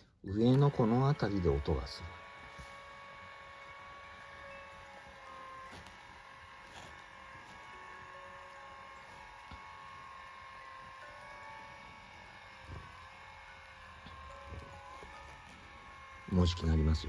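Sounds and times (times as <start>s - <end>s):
massage cushion motor hum: 0.0s - 17.0s.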